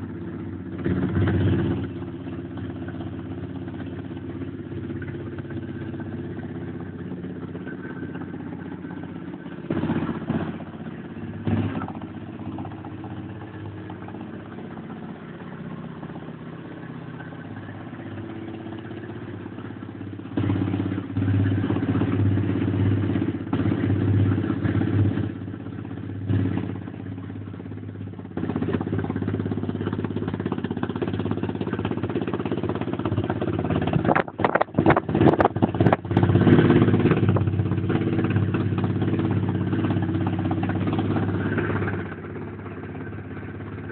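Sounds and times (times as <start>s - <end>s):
motorbike engine idling and revving: 0.0s - 43.9s.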